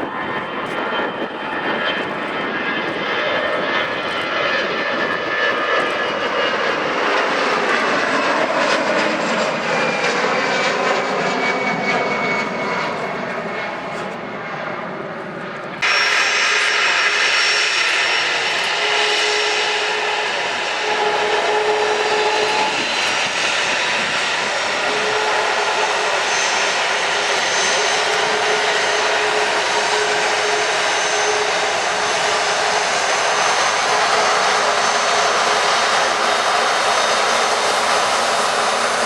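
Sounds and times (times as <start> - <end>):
high engine whine: 0.0 - 39.0
jet engines roaring: 0.0 - 39.0.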